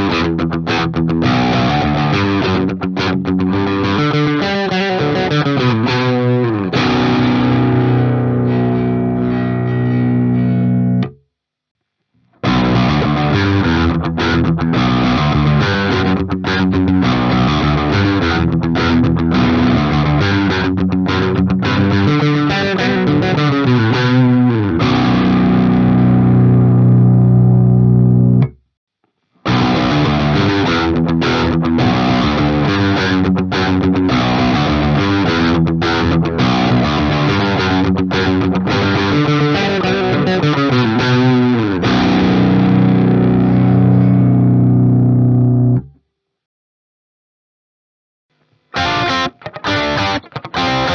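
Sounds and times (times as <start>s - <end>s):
distorted electric guitar riff: 0.0s - 11.2s, 12.3s - 28.6s, 29.4s - 46.0s, 48.4s - 50.9s.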